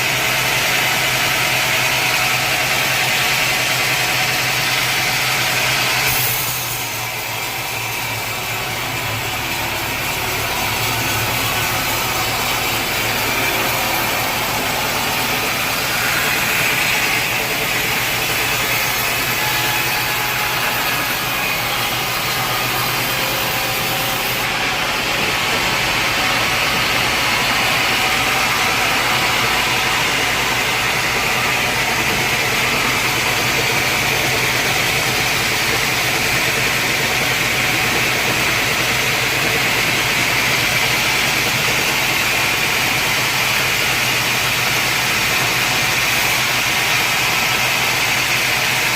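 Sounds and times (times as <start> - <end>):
loud machinery hiss: 0.0 - 48.9
sawmill machinery hum: 0.0 - 48.9.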